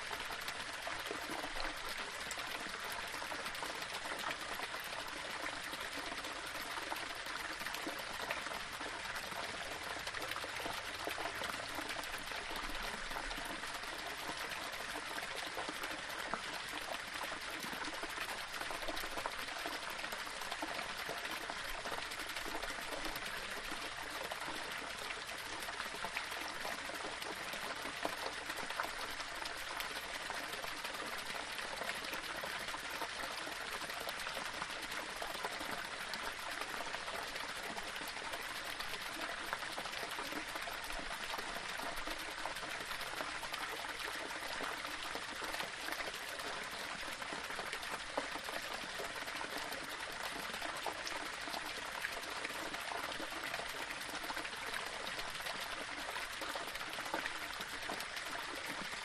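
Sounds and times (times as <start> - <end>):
small waterfall splashing over rocks: 0.0 - 59.0.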